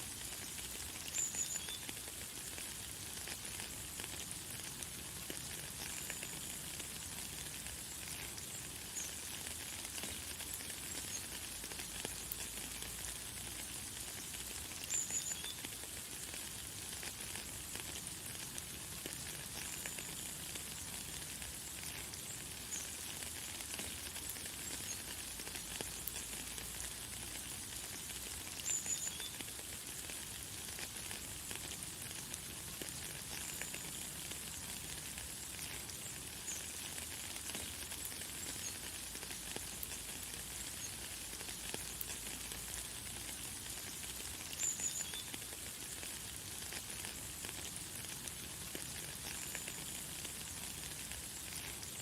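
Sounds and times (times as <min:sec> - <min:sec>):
light rain falling: 0:00.0 - 0:52.0.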